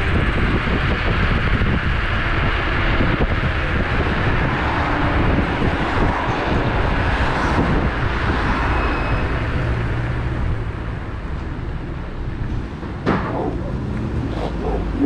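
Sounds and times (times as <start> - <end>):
electric scooter rumble: 0.0 - 15.0
wind buffeting microphone: 0.0 - 15.0.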